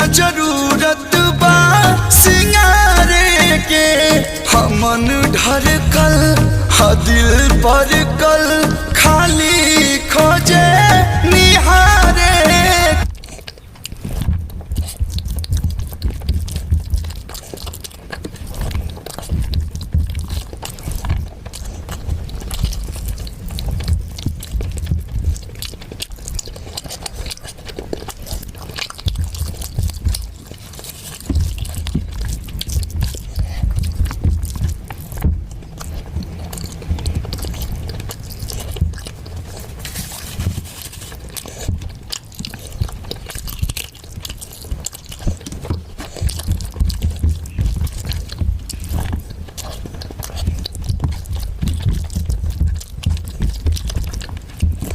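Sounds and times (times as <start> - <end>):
person chewing food: 0.0 - 54.9
wet mouth clicks: 0.0 - 54.9.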